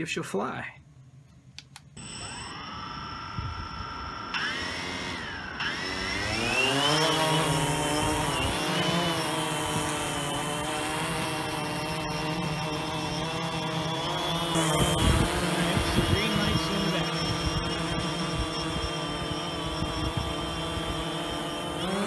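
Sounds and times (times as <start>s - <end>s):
quadcopter buzzing whine: 2.0s - 22.0s.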